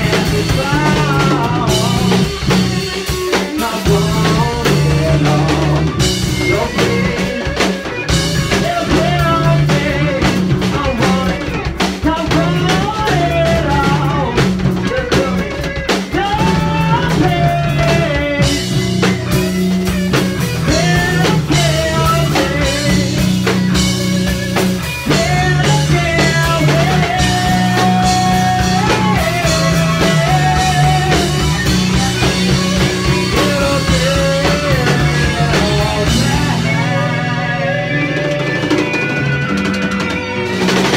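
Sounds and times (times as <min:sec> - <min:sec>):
distorted electric guitar: 0:00.0 - 0:40.9
drum kit with cymbals: 0:00.0 - 0:40.9
electric bass: 0:00.0 - 0:40.9
rock band playing live: 0:00.0 - 0:40.9.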